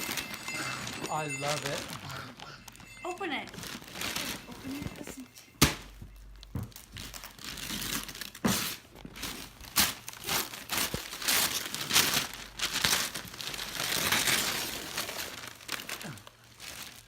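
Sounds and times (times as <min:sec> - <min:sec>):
wrapping paper crinkling and tearing: 0:00.0 - 0:05.3, 0:06.8 - 0:17.0.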